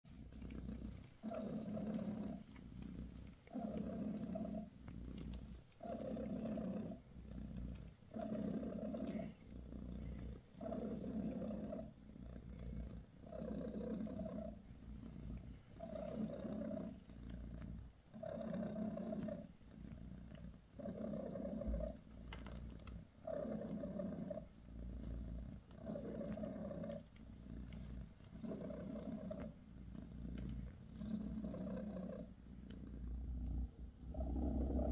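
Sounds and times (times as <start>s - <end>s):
cat purring: 0.1s - 34.9s.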